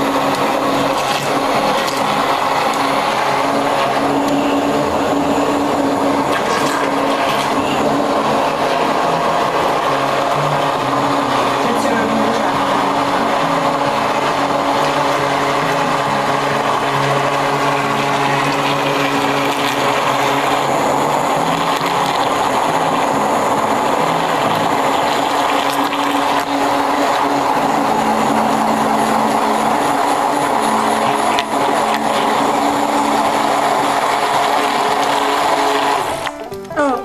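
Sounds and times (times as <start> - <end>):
stick blender running: 0.0 - 37.0.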